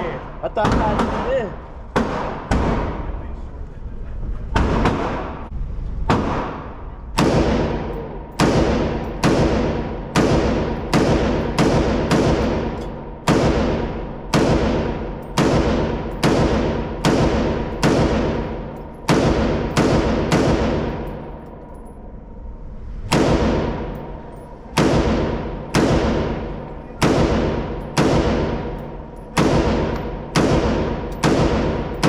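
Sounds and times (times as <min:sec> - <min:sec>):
gunshots echoing indoors: 0:00.0 - 0:03.4, 0:04.5 - 0:32.0.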